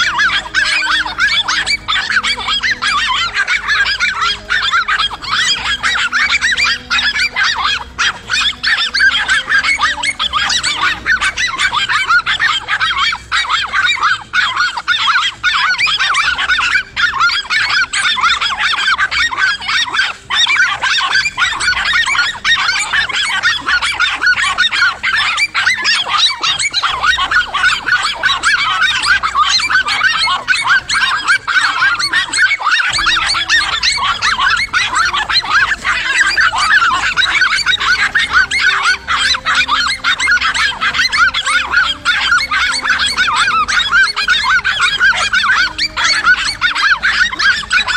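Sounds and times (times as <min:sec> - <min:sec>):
chorus of honking animal calls: 0:00.0 - 0:47.9.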